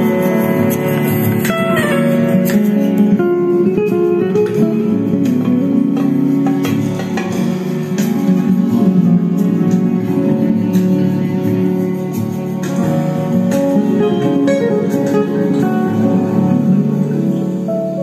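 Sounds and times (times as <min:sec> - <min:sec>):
guitar music through loudspeaker: 0:00.0 - 0:18.0.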